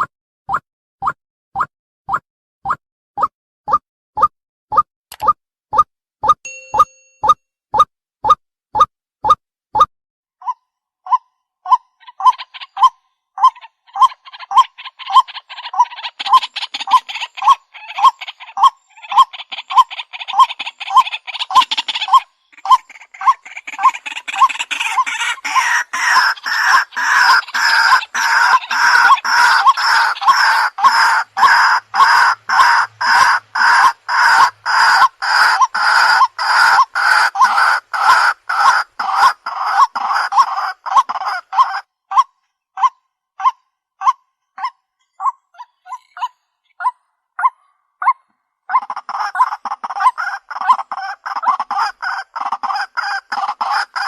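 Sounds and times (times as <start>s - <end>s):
waterhen harsh calls: 10.4s - 54.0s.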